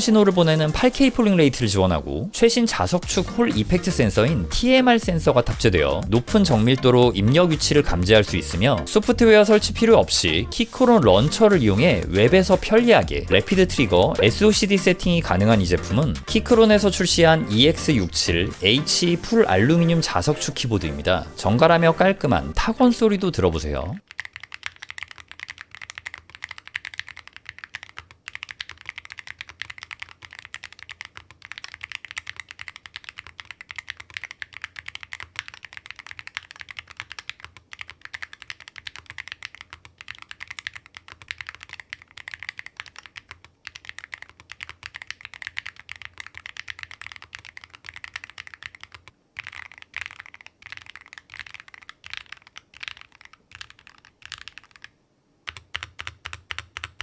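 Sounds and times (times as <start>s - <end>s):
fast keyboard typing: 0.0s - 57.0s.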